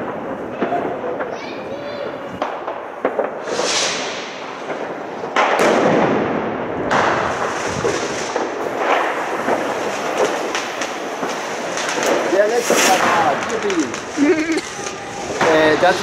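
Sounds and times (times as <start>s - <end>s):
fireworks crackling: 0.0s - 16.0s
sharp firework crack: 0.0s - 16.0s.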